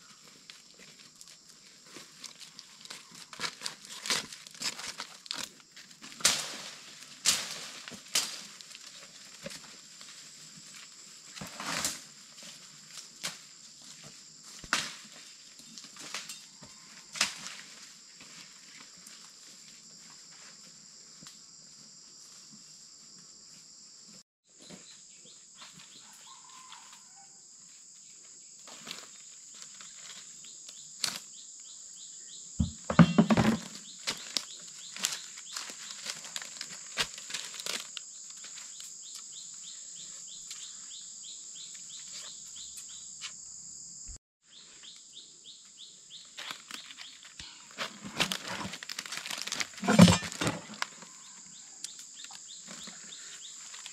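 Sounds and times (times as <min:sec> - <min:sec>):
dry leaves and twigs rustling: 0:00.0 - 0:23.2, 0:24.5 - 0:31.4, 0:32.6 - 0:41.0, 0:44.5 - 0:53.9
insects droning: 0:00.0 - 0:53.9.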